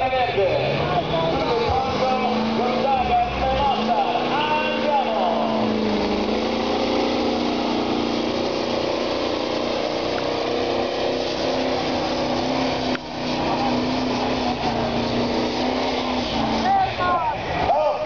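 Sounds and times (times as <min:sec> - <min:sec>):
tractor engine running at high revs: 0:00.0 - 0:18.0.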